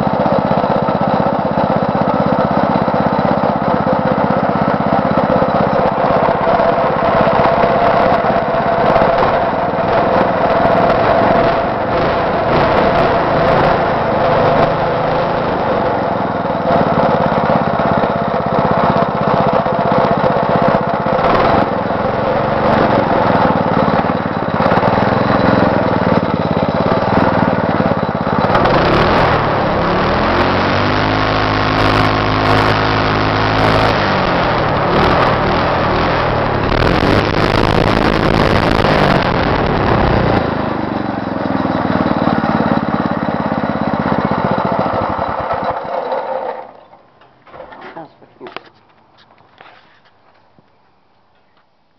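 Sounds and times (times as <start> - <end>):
go-kart engine revving: 0.0 - 48.7.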